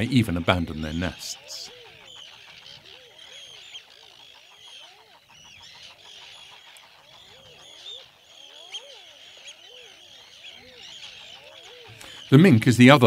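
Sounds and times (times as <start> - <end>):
chattering bird calls: 0.0 - 13.0
eider drakes cooing: 0.2 - 12.4.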